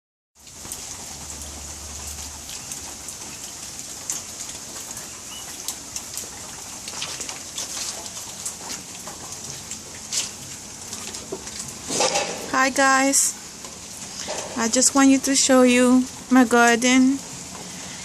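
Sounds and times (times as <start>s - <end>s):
steady rainfall: 0.4s - 18.0s.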